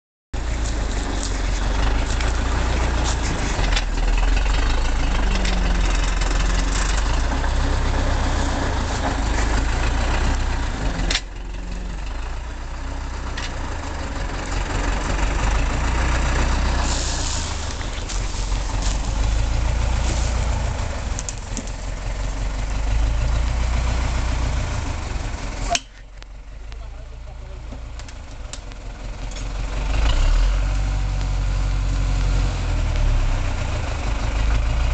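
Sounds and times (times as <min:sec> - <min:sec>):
tractor diesel engine rumbling: 0:00.4 - 0:34.9.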